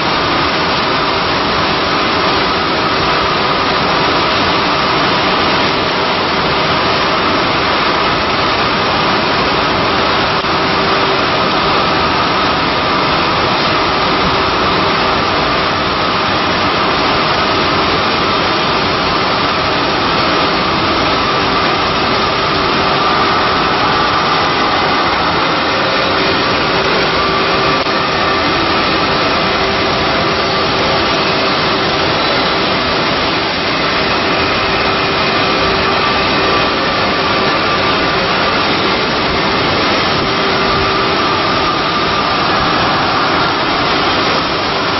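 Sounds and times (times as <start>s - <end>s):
cnc router machine noise: 0.0s - 44.9s
machine whining tones: 0.0s - 44.9s.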